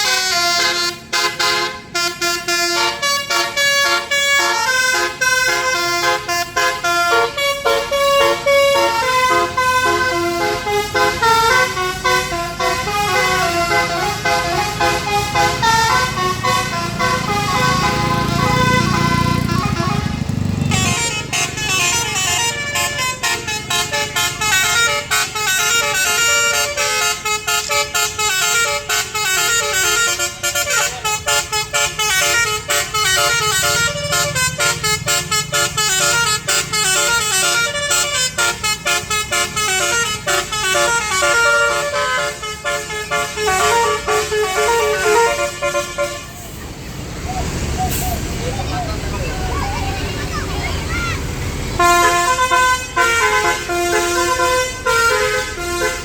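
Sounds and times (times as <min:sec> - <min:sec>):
musical bus horn tune: 0:00.0 - 0:46.7, 0:51.6 - 0:56.0.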